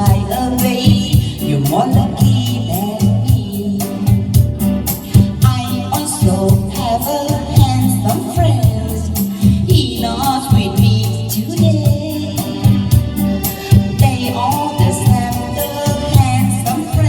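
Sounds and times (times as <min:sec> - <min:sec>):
woman singing: 0:00.0 - 0:04.4, 0:05.1 - 0:17.0
band with bass: 0:00.0 - 0:17.0
shaker-like percussion: 0:00.0 - 0:17.0.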